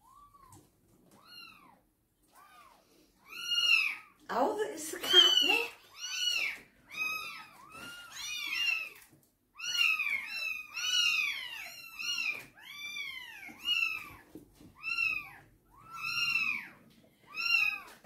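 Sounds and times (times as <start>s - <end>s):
cats meowing: 0.0s - 4.2s, 5.0s - 18.0s.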